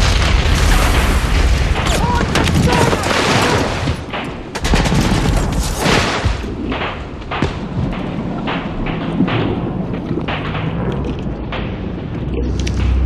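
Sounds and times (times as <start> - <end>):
loud booms: 0.0 - 13.0.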